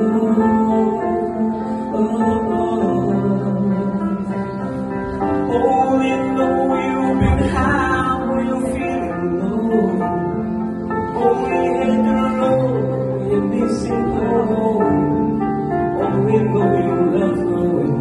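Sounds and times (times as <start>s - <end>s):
guitar-led backing music: 0.0s - 18.0s
person singing into microphone: 0.0s - 18.0s.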